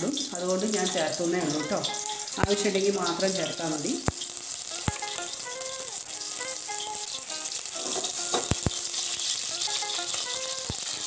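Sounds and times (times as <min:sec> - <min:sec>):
butter sizzling in a pan: 0:00.0 - 0:11.0
soft background music: 0:00.0 - 0:11.0.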